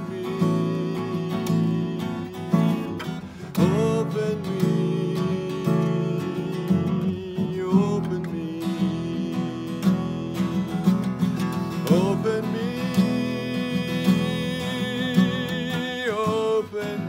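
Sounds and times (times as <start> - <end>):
man singing long notes: 0.0 - 11.0, 11.6 - 17.0
acoustic guitar strumming: 0.0 - 17.0.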